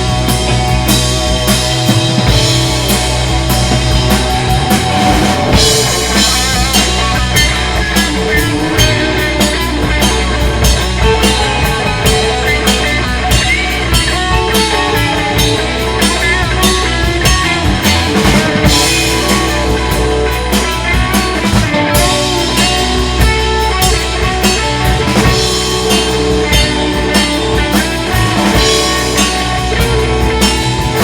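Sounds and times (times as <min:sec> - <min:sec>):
bass guitar: 0:00.0 - 0:31.0
drum kit beat: 0:00.0 - 0:31.0
electric guitar: 0:00.0 - 0:31.0.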